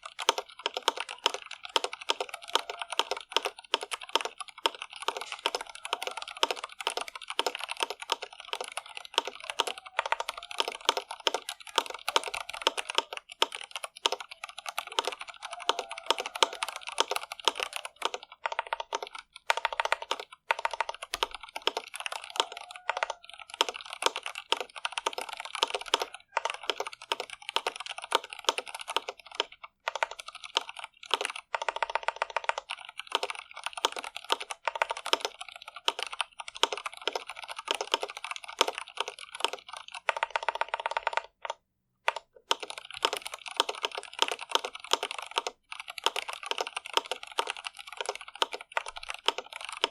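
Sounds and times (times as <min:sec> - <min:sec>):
mechanical keyboard typing: 0:00.0 - 0:49.9.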